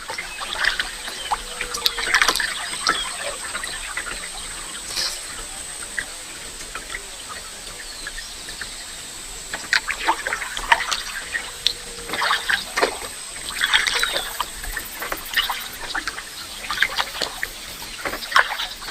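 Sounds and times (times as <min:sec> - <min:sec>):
water trickling and dripping: 0:00.0 - 0:18.9.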